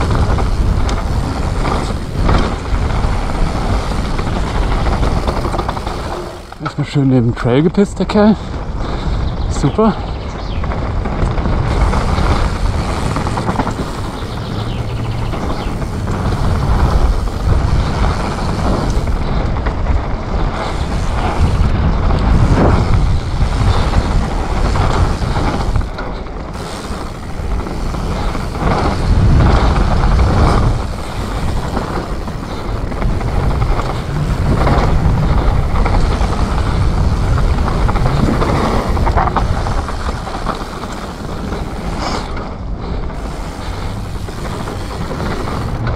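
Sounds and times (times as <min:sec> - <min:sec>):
bike knocks and rattles: 0:00.0 - 0:09.4, 0:10.3 - 0:45.9
knobby tyres on dirt: 0:00.0 - 0:45.9
wind on microphone: 0:00.0 - 0:45.9.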